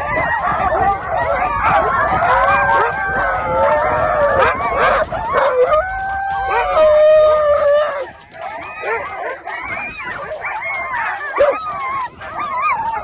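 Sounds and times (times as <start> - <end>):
sled dogs howling and yelping: 0.0 - 13.0.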